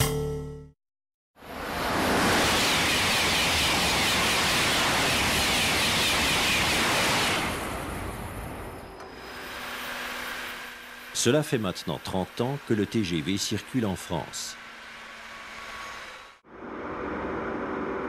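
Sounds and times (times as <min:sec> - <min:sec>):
high-speed train passing: 0:01.4 - 0:18.0.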